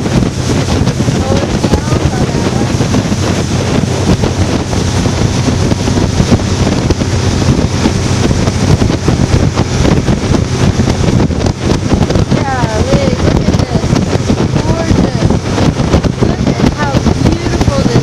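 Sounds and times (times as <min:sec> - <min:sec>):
boat engine drone: 0:00.0 - 0:18.0
rushing water: 0:00.0 - 0:18.0
wind buffeting microphone: 0:00.0 - 0:18.0.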